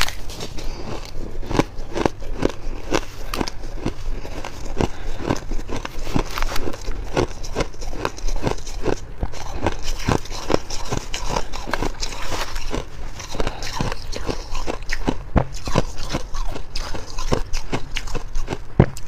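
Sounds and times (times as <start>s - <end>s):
crunching shaved ice: 0.0s - 19.0s.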